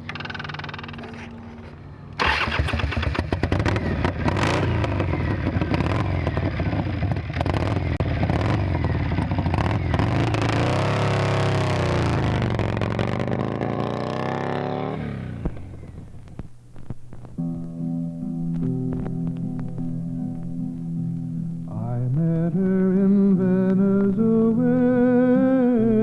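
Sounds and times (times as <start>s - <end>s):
starter whir: 2.2s - 13.4s, 14.9s - 26.0s
motorcycle engine revving: 2.2s - 26.0s.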